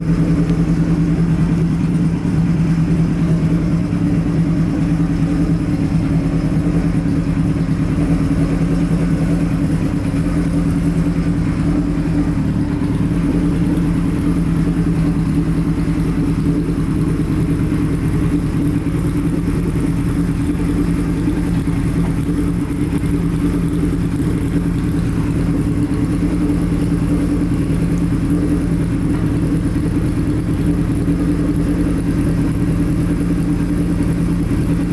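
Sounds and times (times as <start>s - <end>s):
motorcycle engine running steadily: 0.0s - 34.9s.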